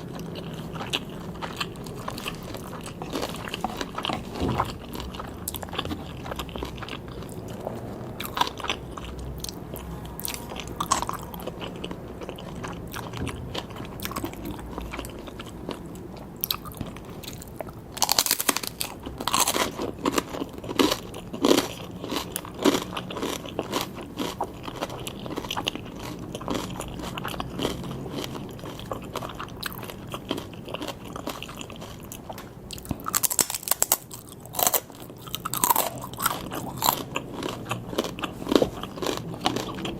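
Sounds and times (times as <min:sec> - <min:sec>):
person biting and chewing: 0:00.0 - 0:39.9.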